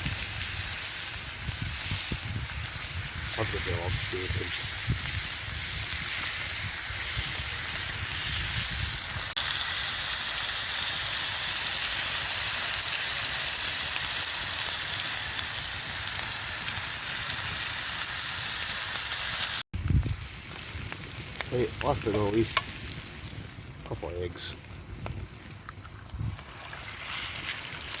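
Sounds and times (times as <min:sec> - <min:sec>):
food sizzling over a campfire: 0:00.0 - 0:28.0.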